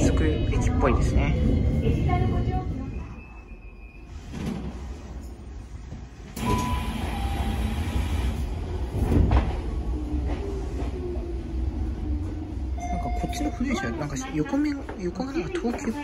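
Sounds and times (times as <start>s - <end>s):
electric train rumbling on rails: 0.0s - 16.0s.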